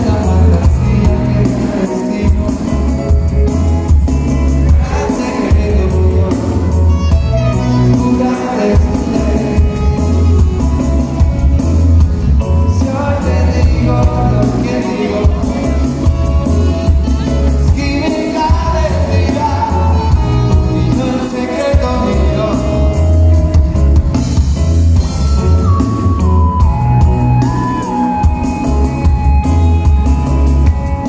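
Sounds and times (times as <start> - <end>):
heavy pulsing bass line: 0.0 - 31.0
reggae band playing live: 0.0 - 31.0.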